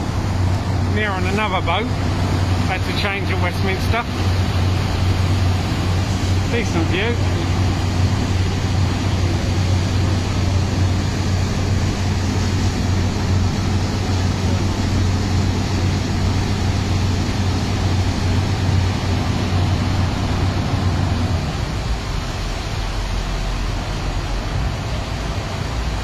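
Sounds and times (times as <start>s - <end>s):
boat engines droning: 0.0s - 26.0s
rush of water and air: 0.0s - 26.0s.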